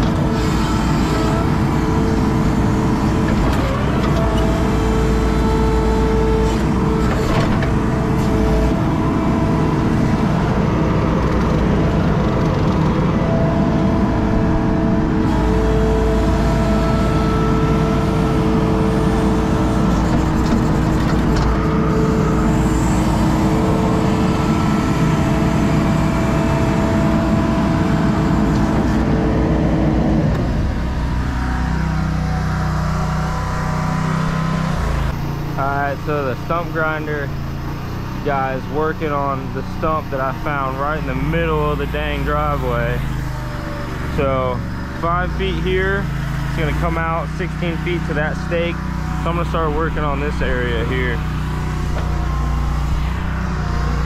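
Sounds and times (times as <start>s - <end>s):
skid steer engine under load: 0.0s - 54.0s.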